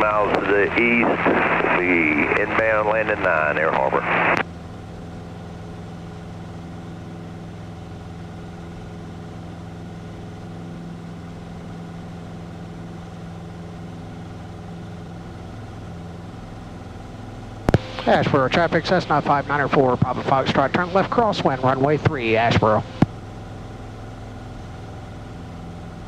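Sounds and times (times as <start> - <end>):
airplane engine and propeller droning: 0.0 - 26.0.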